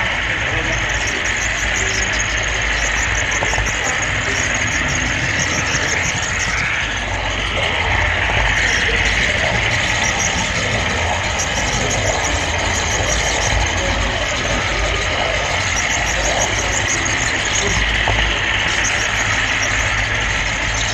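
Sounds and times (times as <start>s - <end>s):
faint rapid clicking: 0.0s - 20.9s
model train car rumbling on track: 0.0s - 20.9s.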